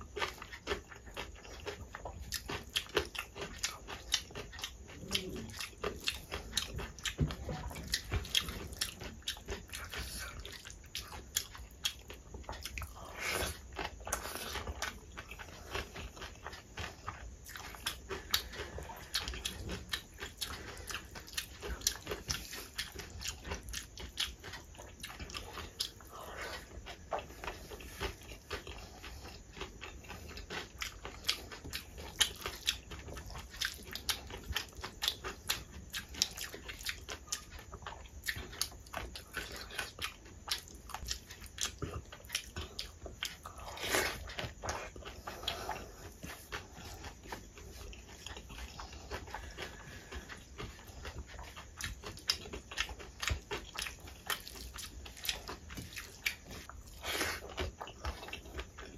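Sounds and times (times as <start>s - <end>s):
wet chewing and lip smacks: 0.0s - 58.9s.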